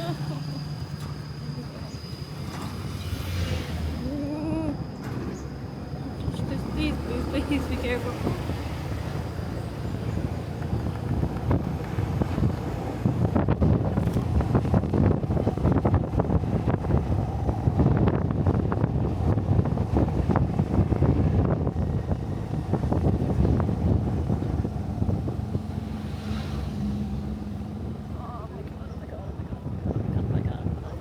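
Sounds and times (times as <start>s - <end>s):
vehicle running: 0.0s - 31.0s
wind buffeting microphone: 1.8s - 31.0s.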